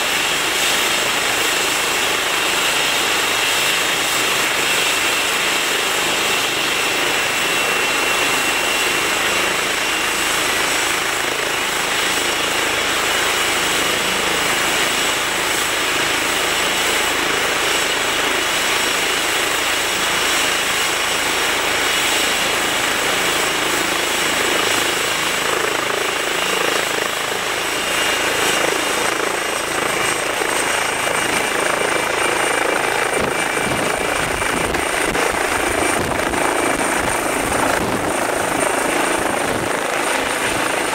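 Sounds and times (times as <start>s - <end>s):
helicopter turbines whining: 0.0s - 40.9s.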